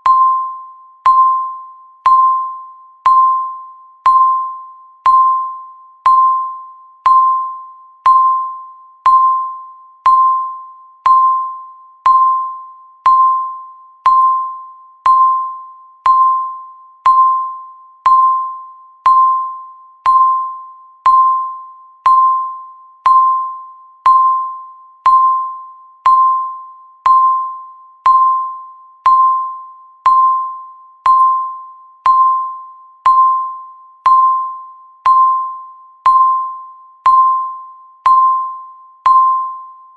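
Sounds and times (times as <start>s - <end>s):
timer ticking pings: 0.0s - 39.9s.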